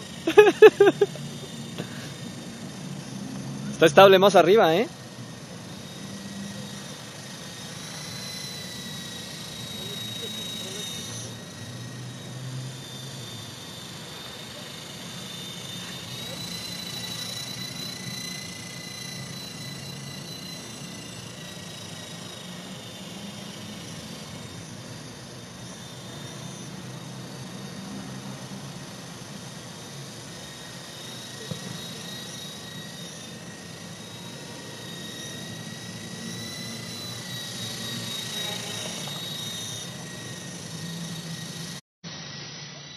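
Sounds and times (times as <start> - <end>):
rotors hissing: 0.0 - 42.3
toy helicopter motors whining: 0.0 - 42.9.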